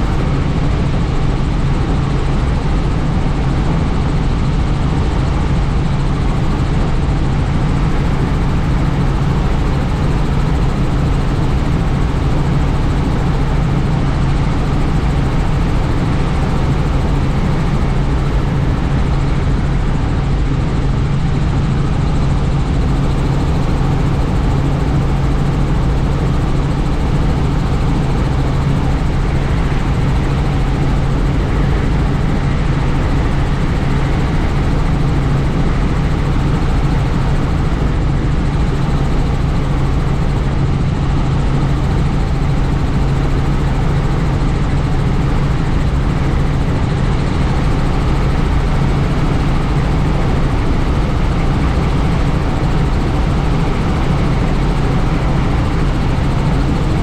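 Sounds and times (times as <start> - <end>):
helicopter rotor and engine drone: 0.0 - 57.0
rushing wind noise: 0.0 - 57.0.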